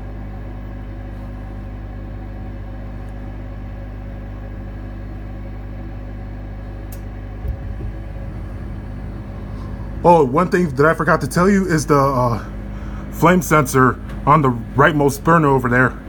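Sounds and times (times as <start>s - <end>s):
gas burners lighting rumble: 0.0s - 16.0s
inducer motor hum: 0.0s - 16.0s.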